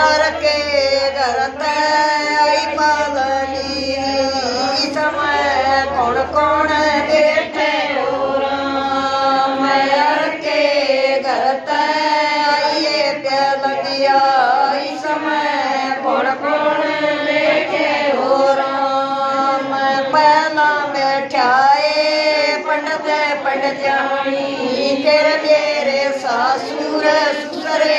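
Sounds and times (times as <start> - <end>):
women singing a folk hymn: 0.0 - 27.9.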